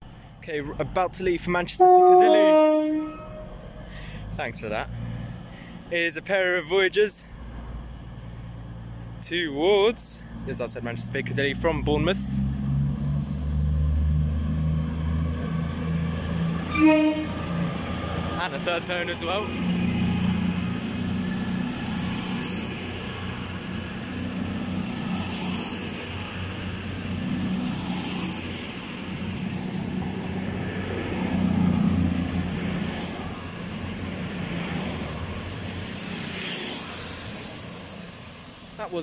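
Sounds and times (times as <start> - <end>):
diesel train engine drone: 0.0 - 39.0.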